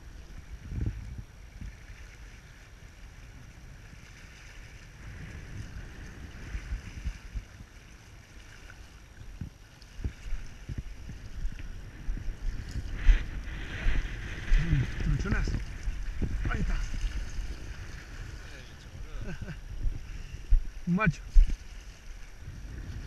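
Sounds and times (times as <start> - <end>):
choppy water lapping: 0.0 - 23.0
wind buffeting microphone: 0.0 - 23.0.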